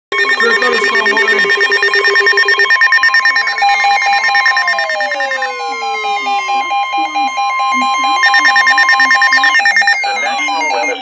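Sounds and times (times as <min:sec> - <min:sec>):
electronic alarm beeps: 0:00.1 - 0:11.0
steady warning tones: 0:00.1 - 0:11.0.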